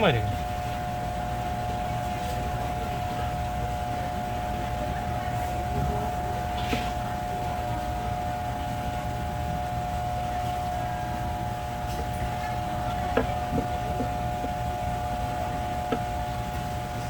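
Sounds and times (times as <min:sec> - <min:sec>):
machine hum with whining tone: 0:00.0 - 0:17.0.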